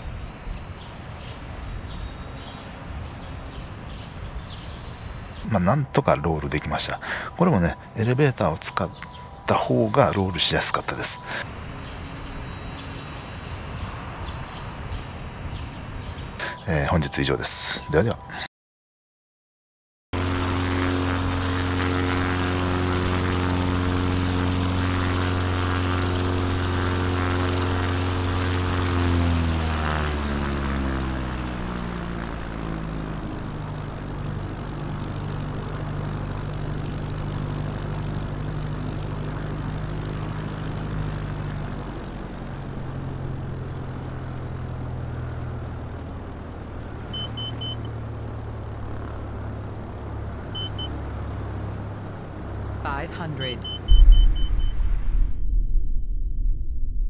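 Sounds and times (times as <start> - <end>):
model plane propeller drone: 0.0 - 18.5, 20.2 - 55.7.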